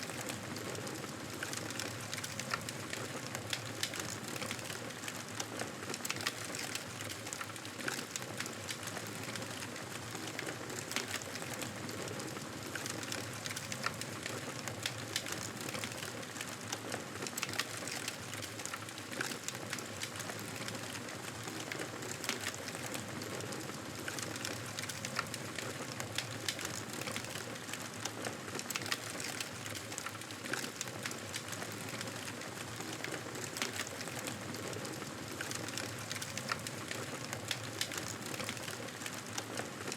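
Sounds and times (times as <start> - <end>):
wood fire crackling and popping: 0.0 - 39.7.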